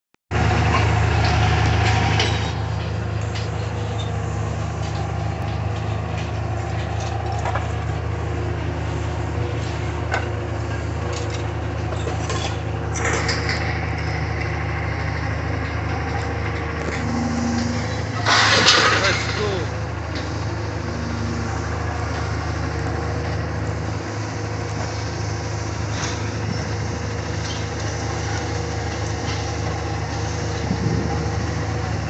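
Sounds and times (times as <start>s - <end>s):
diesel engine droning: 0.3s - 32.0s.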